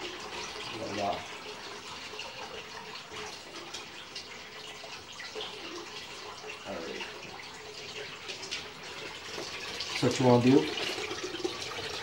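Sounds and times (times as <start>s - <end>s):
faucet water pouring into sink: 0.0s - 12.0s.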